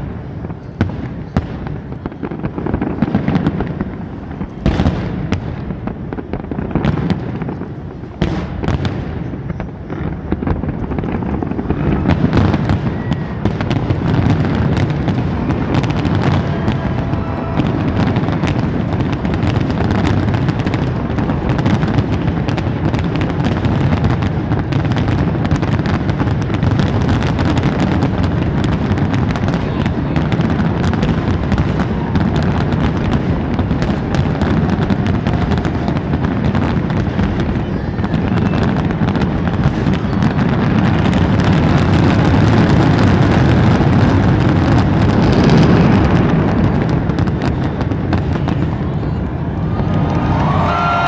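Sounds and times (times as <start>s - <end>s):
fireworks crackling and popping: 0.0s - 51.0s.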